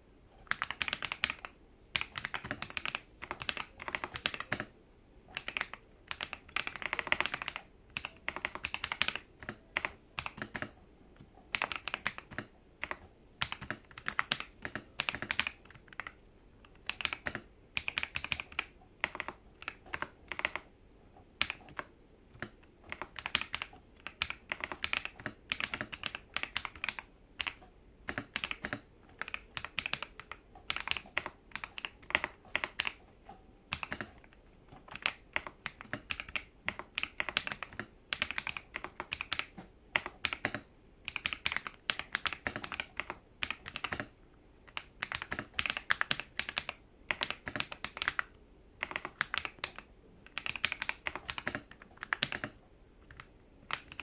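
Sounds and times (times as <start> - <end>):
mechanical keyboard typing: 0.4 - 4.7, 5.3 - 20.7, 21.4 - 33.0, 33.7 - 54.0.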